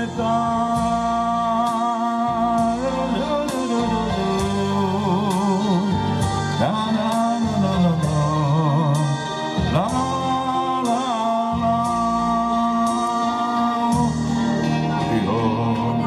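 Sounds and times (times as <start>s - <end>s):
song over a pa: 0.0s - 16.0s.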